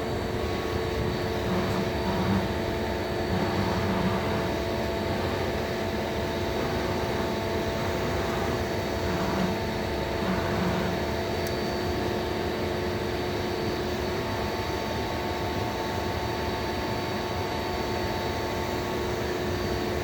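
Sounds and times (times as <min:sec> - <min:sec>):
lathe humming and whining: 0:00.0 - 0:20.0.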